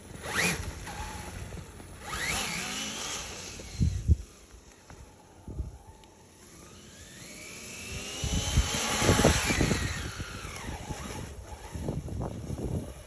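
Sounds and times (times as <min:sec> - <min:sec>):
electric motor whining: 0:00.1 - 0:13.0.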